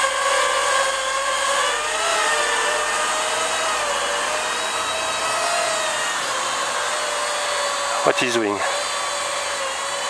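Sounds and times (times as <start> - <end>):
drone propellers buzzing: 0.0 - 10.0.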